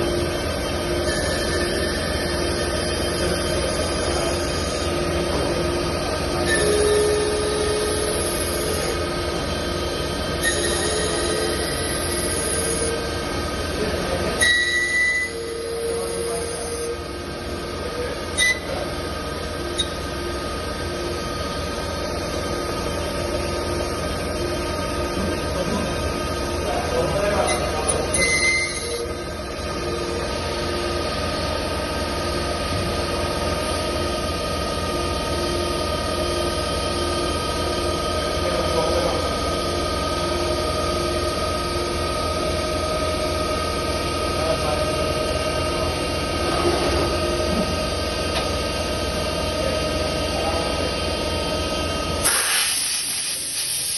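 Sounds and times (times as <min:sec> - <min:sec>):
low pulsing tone: 0:00.0 - 0:51.0
cnc machine whining: 0:00.0 - 0:53.9.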